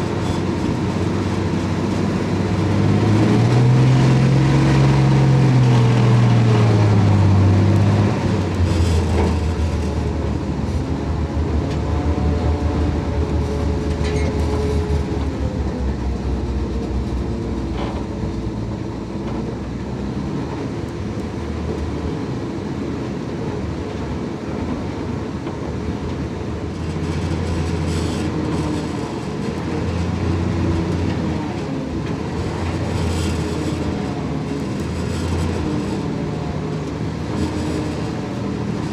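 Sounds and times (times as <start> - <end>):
truck engine low drone: 0.0 - 38.9.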